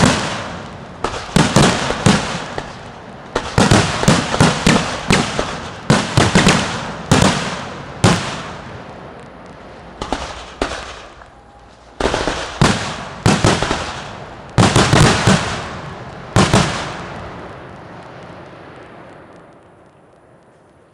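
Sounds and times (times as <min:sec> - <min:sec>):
fireworks bangs echoing: 0:00.0 - 0:19.3.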